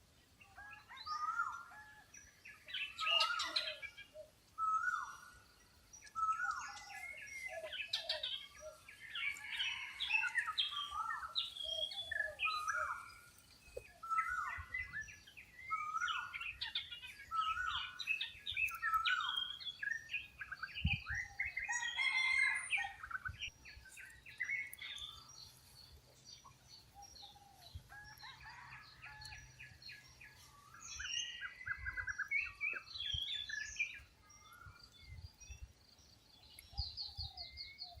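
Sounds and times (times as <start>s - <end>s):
wild birds chirping: 0.0s - 38.0s.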